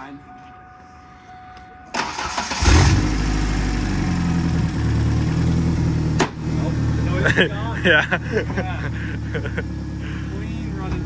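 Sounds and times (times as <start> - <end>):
pickup engine idling: 2.1 - 11.0.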